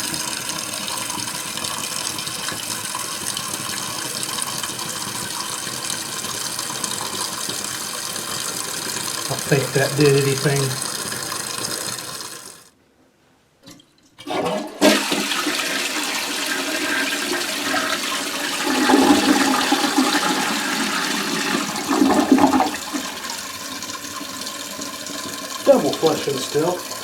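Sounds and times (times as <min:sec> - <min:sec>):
toilet flushing: 0:00.0 - 0:12.7, 0:14.2 - 0:27.0.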